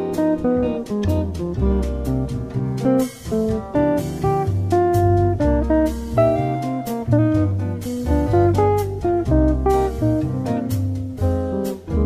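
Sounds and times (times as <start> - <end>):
bossa nova jazz guitar music: 0.0 - 12.0.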